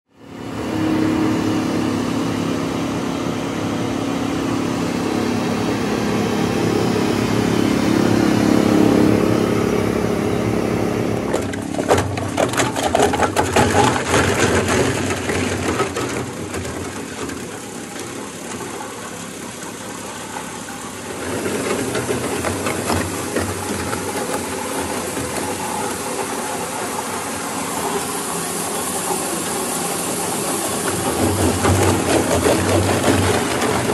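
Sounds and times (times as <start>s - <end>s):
shredder motor hum: 0.2s - 33.9s.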